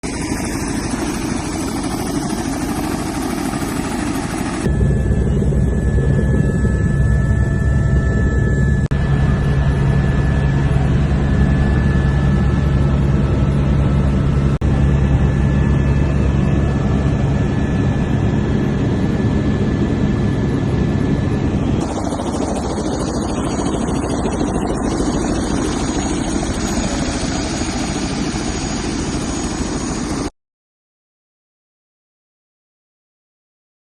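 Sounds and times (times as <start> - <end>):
helicopter rotor drone: 0.0 - 30.3.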